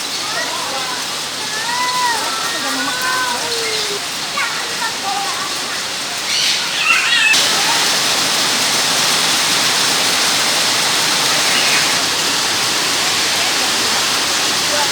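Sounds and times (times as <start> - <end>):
falling water rushing: 0.0 - 14.9.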